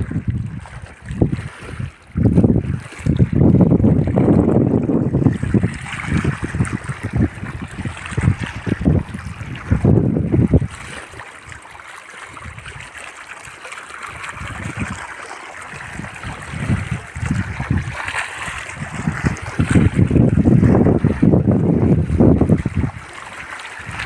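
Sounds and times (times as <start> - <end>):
wind buffeting microphone: 0.0 - 11.7, 12.3 - 24.0
river water flowing: 3.6 - 24.0.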